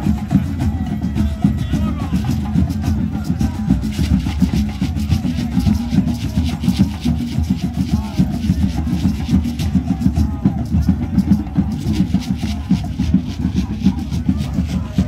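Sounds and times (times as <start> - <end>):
hand drums playing fast beat: 0.0 - 15.0.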